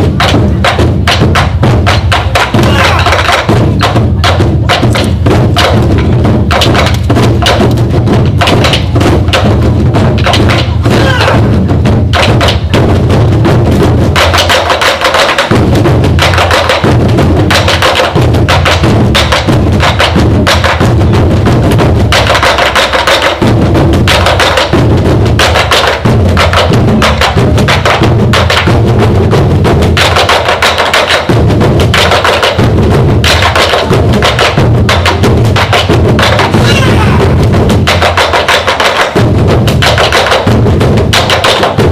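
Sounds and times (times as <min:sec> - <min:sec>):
drum ensemble beating fast rhythm: 0:00.0 - 0:41.9.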